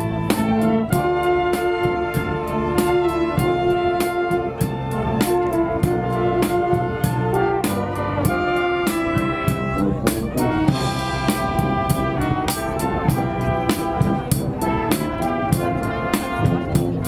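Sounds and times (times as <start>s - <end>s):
steady drum beat: 0.0s - 17.0s
wind band playing: 0.0s - 17.0s.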